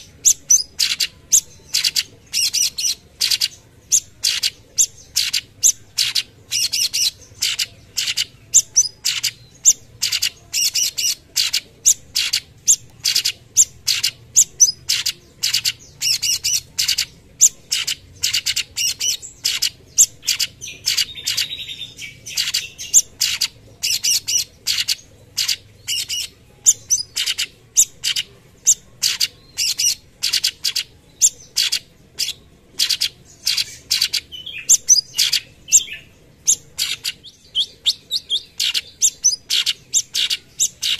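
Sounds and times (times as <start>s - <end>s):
buzzy bird phrase: 0.0s - 40.9s.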